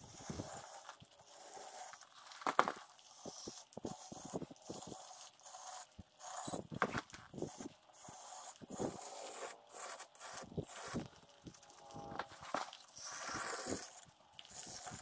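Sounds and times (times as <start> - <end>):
edger scraping wet concrete: 1.4 - 15.0.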